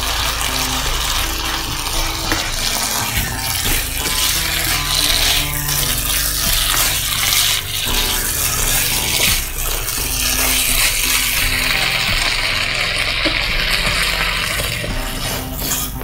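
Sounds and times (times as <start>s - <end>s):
background music: 0.0s - 16.0s
food sizzling in a wok: 0.0s - 16.0s
spatula stirring in wok: 0.0s - 16.0s.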